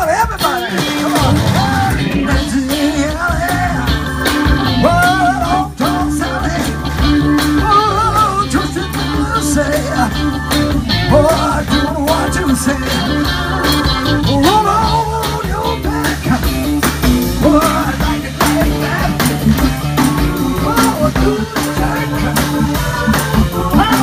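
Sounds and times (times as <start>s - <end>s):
drums beat: 0.0s - 24.0s
live rock band: 0.0s - 24.0s
man singing with vibrato: 0.0s - 24.0s.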